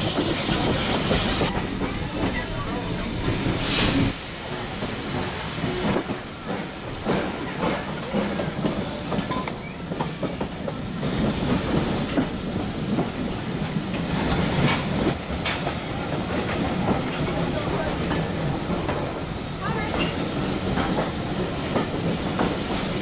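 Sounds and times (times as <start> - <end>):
train rumble: 0.0 - 23.0
train wheels clicking over rail joints: 0.0 - 23.0.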